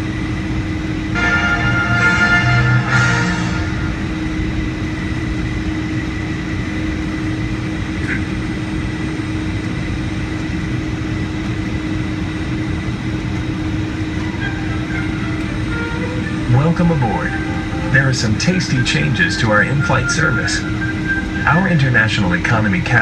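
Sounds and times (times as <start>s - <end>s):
aircraft engines rumbling: 0.0s - 23.0s
constant cabin hum: 0.0s - 23.0s.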